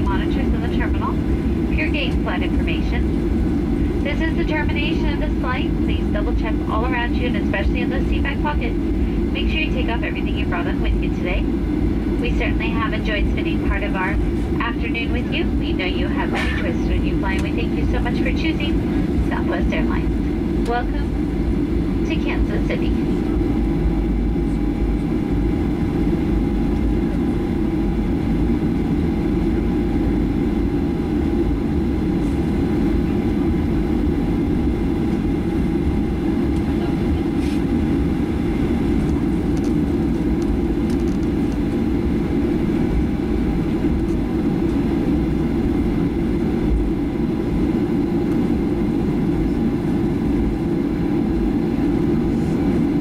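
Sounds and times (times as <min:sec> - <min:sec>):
airplane engines rumbling: 0:00.0 - 0:53.0
faint steady whine: 0:00.0 - 0:53.0.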